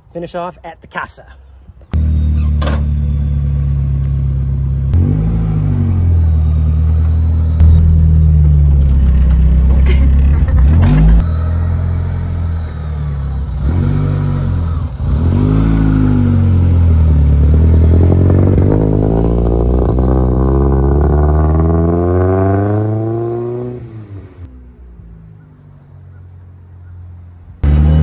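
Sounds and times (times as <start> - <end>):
car engine revving: 2.0 - 24.5, 27.6 - 28.0.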